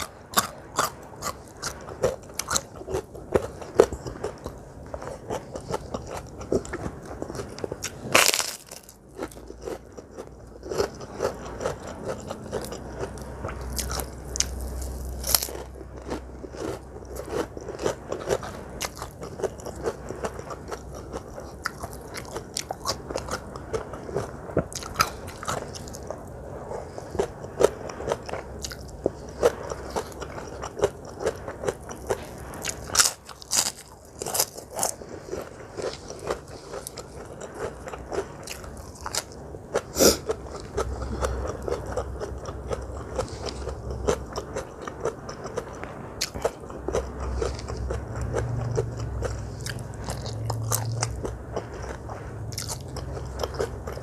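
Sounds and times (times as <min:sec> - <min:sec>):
crunchy bites and chewing: 0:00.0 - 0:54.0.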